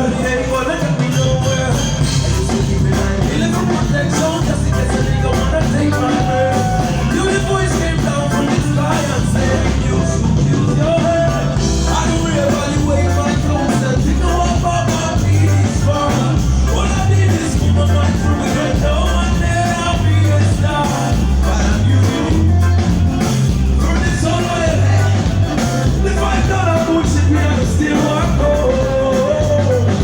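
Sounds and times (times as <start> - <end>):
band music over loudspeakers: 0.0 - 30.0
repeating bass line: 0.0 - 30.0.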